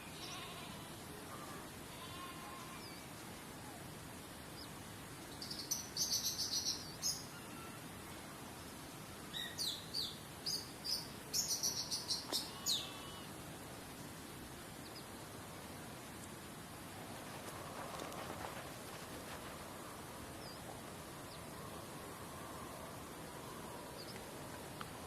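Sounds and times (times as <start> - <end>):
songbird chirping: 0.0 - 13.3, 14.0 - 15.3, 15.9 - 25.0
background hiss: 0.0 - 25.0.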